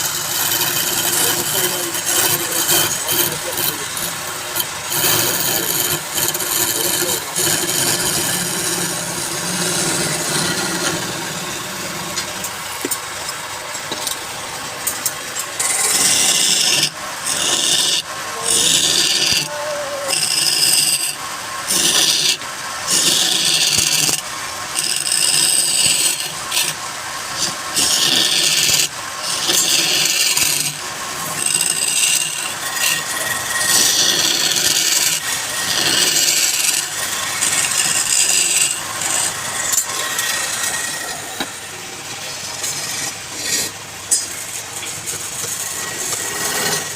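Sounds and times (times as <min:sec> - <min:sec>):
lathe motor running: 0:00.0 - 0:46.9
tool scraping turning wood: 0:00.0 - 0:46.9.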